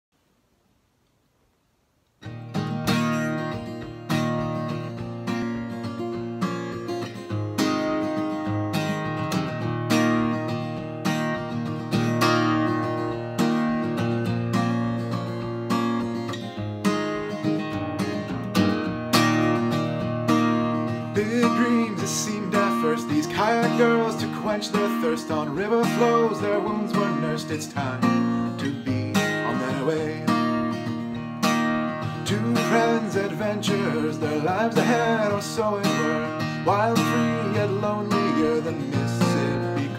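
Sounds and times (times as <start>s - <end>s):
acoustic guitar strumming chords: 2.2s - 39.9s.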